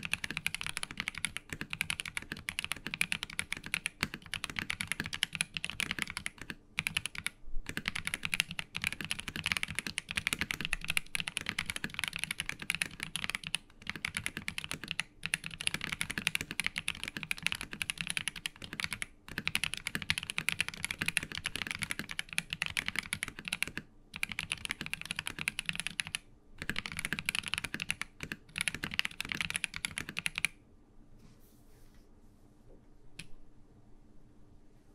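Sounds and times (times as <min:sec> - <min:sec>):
mechanical keyboard typing: 0:00.0 - 0:30.6.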